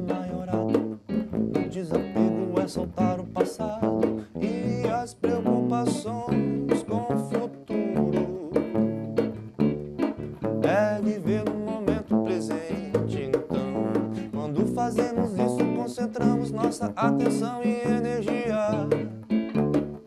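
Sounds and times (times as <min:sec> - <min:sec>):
bass line: 0:00.0 - 0:20.0
drums: 0:00.0 - 0:20.0
electric guitar lead line: 0:00.0 - 0:20.0.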